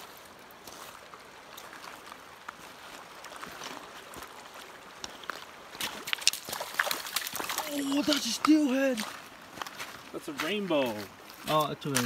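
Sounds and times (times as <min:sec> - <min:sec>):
faint water splashes: 0:00.0 - 0:12.0
river water running over gravel: 0:00.0 - 0:12.0.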